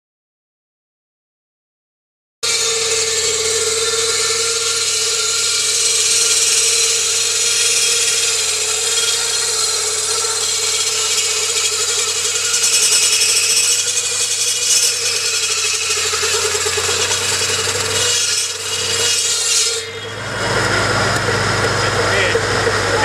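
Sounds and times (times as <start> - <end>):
circular saw blade whining: 2.4 - 23.0
tractor engine: 2.4 - 23.0.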